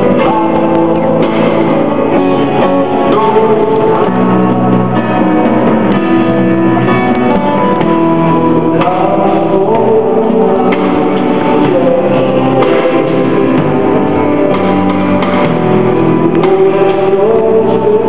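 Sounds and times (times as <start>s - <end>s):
drums: 0.0s - 18.0s
guitar: 0.0s - 18.0s.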